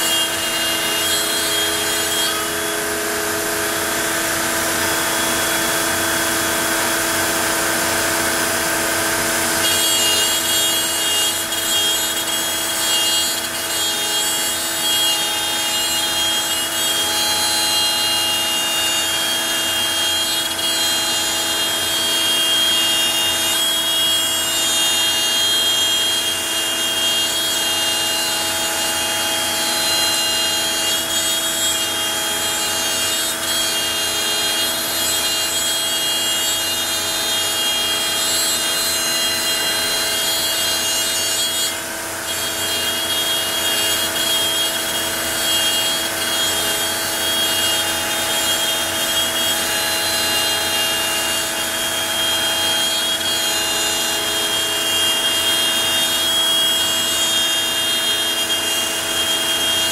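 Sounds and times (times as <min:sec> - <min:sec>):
cnc router spindle whine: 0:00.0 - 0:59.9.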